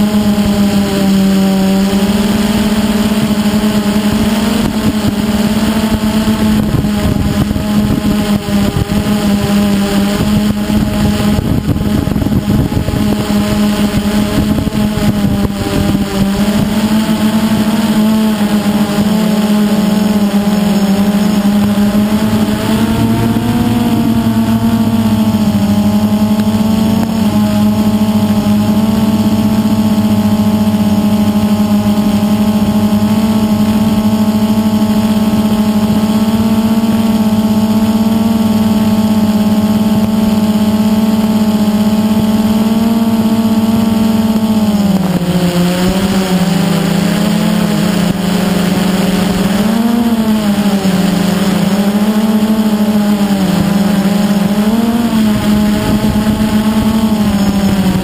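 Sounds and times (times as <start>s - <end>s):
drone propellers humming: 0.0s - 58.0s.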